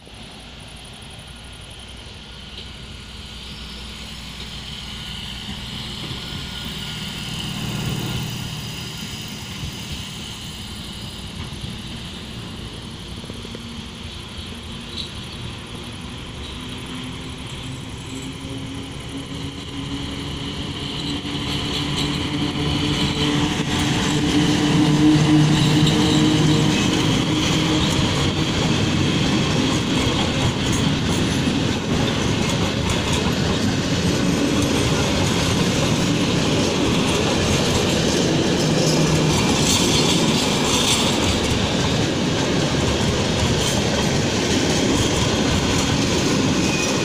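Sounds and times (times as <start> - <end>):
approaching train rumble: 0.0 - 47.0.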